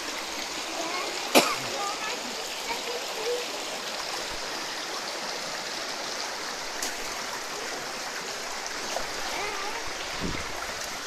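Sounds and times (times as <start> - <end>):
stream water running over rocks: 0.0 - 11.0.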